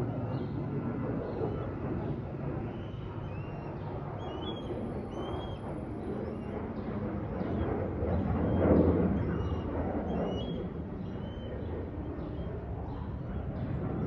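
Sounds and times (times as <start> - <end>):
jet airliner rumble overhead: 0.0 - 14.0.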